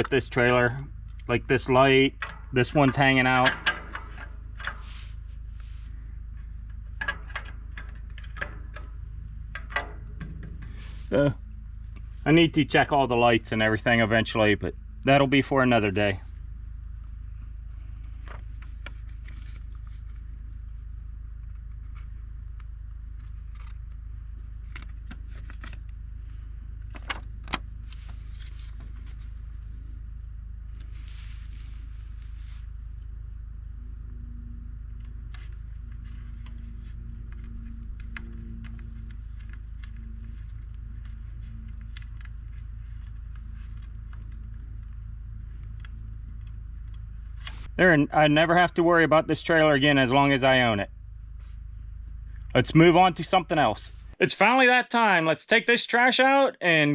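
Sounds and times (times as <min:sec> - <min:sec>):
steady low hum: 0:00.0 - 0:54.4.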